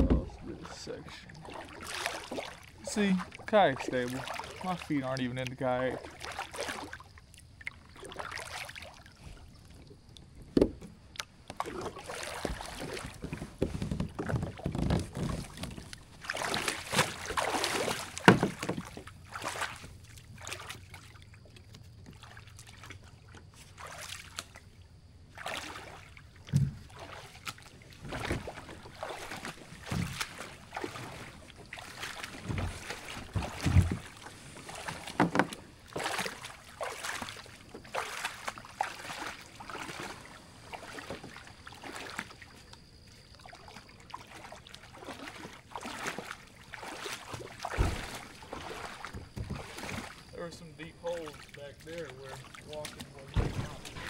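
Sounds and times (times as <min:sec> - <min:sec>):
boots splashing through creek: 0:00.0 - 0:09.2, 0:11.2 - 0:54.0
water sloshing around hull: 0:00.0 - 0:54.0.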